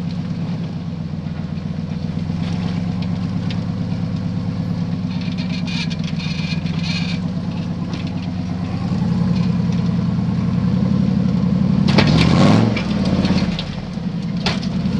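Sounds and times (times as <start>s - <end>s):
buggy engine revving: 0.0s - 14.9s
sharp exhaust cracks: 0.0s - 14.9s.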